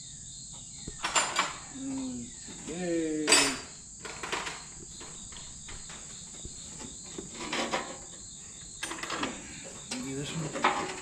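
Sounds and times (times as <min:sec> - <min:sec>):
insects chirring: 0:00.0 - 0:11.0
hand tools clanking: 0:00.9 - 0:08.2, 0:08.8 - 0:11.0.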